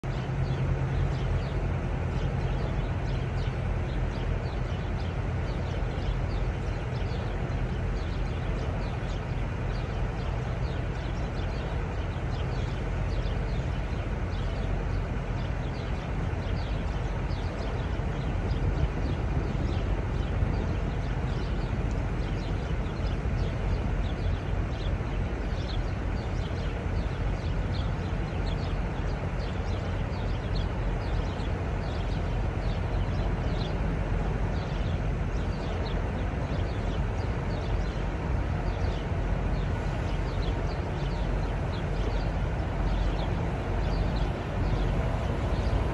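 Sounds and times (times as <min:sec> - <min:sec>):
diesel truck engines droning: 0:00.0 - 0:45.9.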